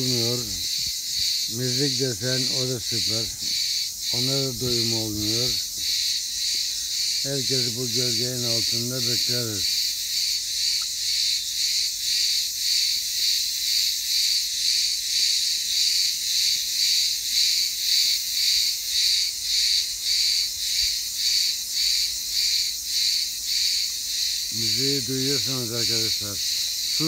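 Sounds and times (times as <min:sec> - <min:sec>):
cicadas buzzing: 0:00.0 - 0:27.0.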